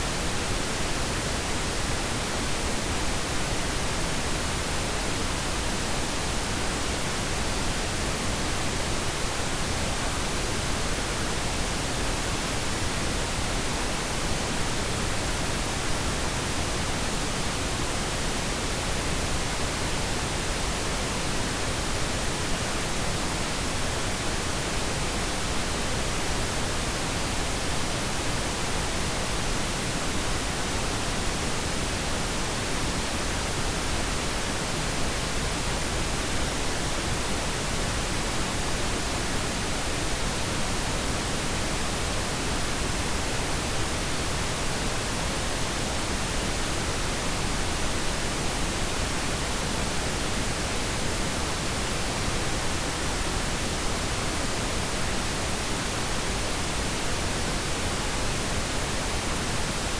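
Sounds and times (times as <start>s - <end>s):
steady pink noise: 0.0s - 59.9s.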